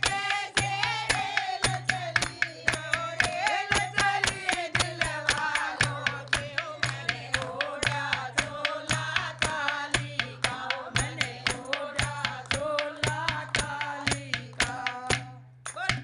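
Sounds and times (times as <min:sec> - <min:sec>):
women singing in unison: 0:00.0 - 0:15.9
rhythmic hand-clapping: 0:00.0 - 0:16.0.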